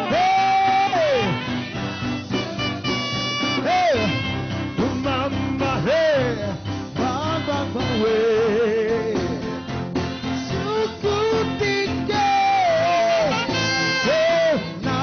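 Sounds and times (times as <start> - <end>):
backing band playing: 0.0 - 15.0
person singing gospel: 0.0 - 15.0.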